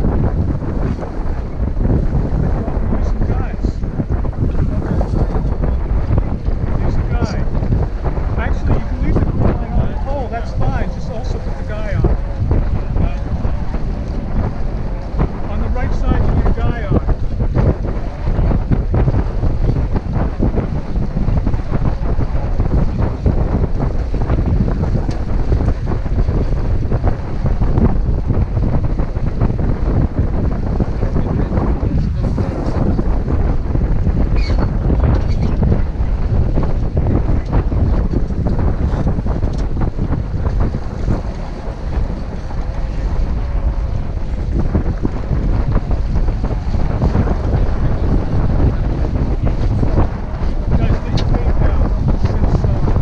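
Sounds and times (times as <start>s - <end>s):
water rushing along a hull: 0.0s - 53.0s
wind buffeting the microphone: 0.0s - 53.0s.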